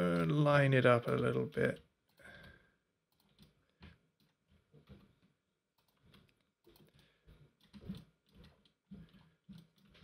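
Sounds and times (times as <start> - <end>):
keyboard and mouse clicks: 1.1 - 10.0.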